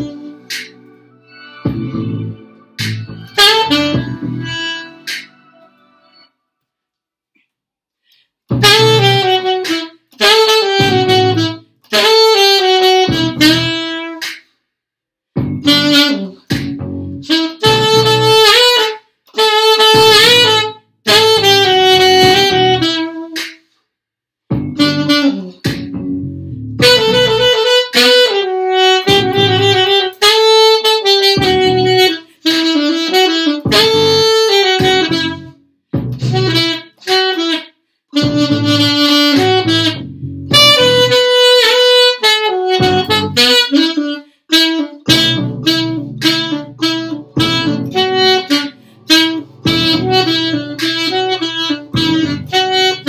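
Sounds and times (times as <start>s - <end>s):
solo saxophone melody: 0.0s - 6.3s, 8.5s - 14.2s, 15.5s - 23.4s, 24.6s - 53.0s.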